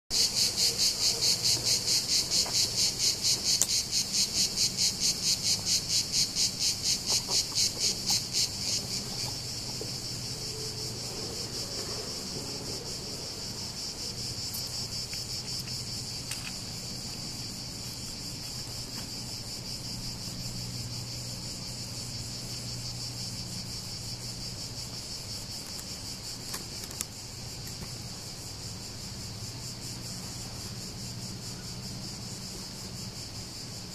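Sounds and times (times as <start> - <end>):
cicadas buzzing: 0.1 - 33.9.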